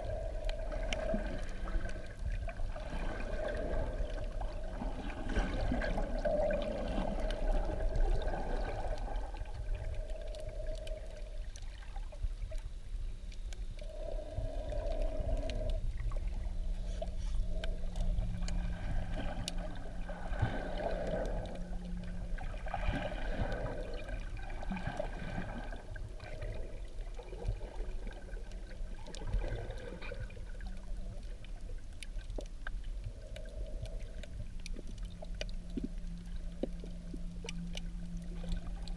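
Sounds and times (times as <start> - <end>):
faint crackles and clicks: 0.0 - 38.9
low hum: 0.0 - 38.9
underwater rumble: 0.0 - 38.9.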